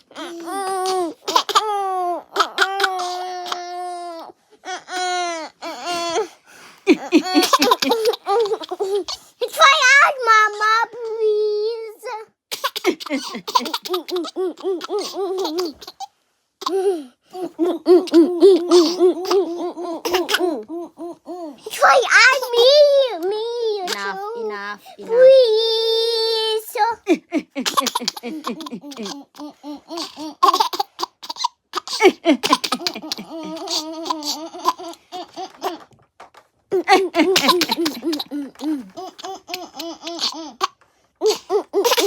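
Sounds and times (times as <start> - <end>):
baby laughing: 0.1 - 4.1, 6.9 - 11.2, 12.5 - 24.4, 25.0 - 42.0.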